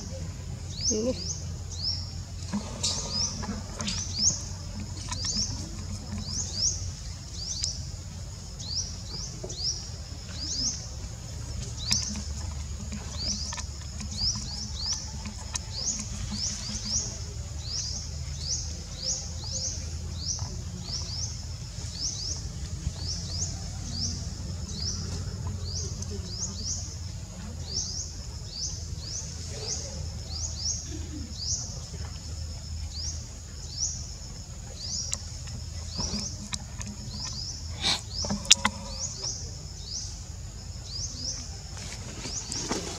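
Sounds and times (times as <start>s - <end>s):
low background rumble: 0.0s - 42.6s.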